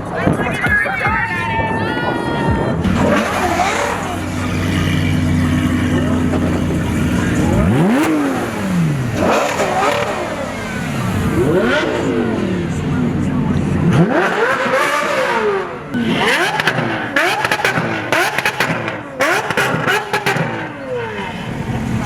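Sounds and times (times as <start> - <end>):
supercar engines revving: 0.0 - 22.0.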